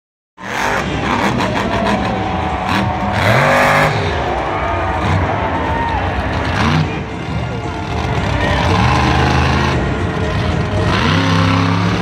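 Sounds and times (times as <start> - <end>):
monster truck engine revving: 0.4 - 12.0
music from arena speakers: 0.4 - 12.0.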